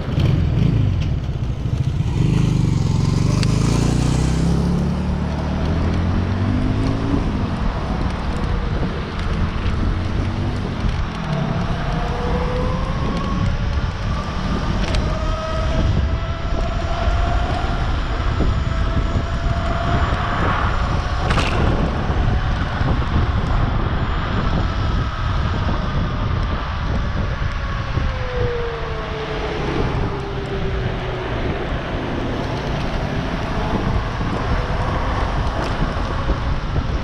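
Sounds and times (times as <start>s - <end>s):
vehicle motor whine: 0.0s - 37.0s
wind rumble on microphone: 0.0s - 37.0s.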